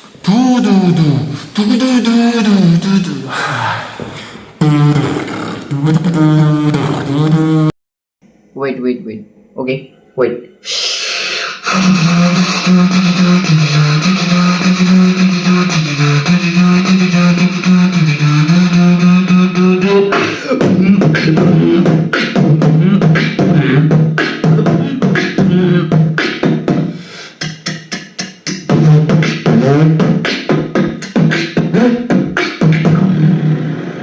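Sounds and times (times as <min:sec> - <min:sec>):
person beatboxing: 0:00.0 - 0:07.7, 0:10.7 - 0:33.8.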